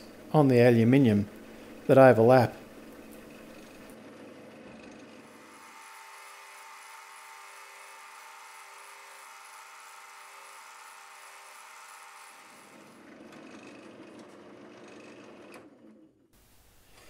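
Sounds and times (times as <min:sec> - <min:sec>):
drill press running: 0:01.3 - 0:17.0.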